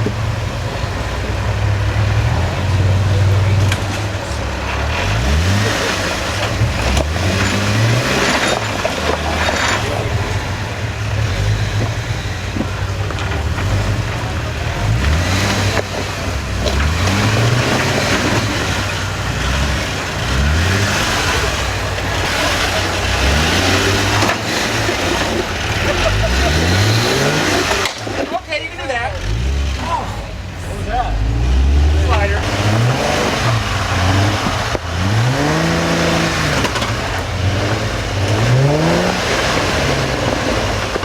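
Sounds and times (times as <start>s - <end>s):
engine revving in bursts: 0.0s - 41.0s.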